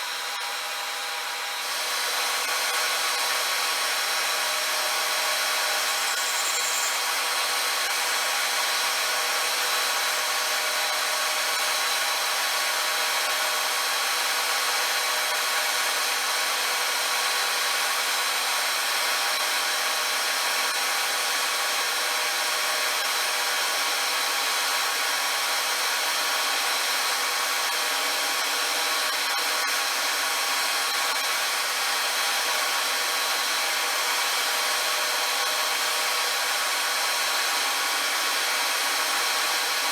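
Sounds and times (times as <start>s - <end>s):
power tool whirring on steel: 0.0s - 39.9s.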